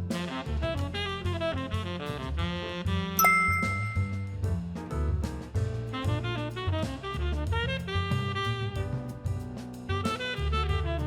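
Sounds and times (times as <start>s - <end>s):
bass: 0.0s - 11.0s.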